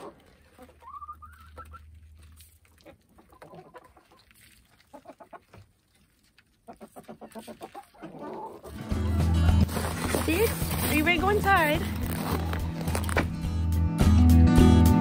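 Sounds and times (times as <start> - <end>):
hens clucking: 0.0 - 12.6.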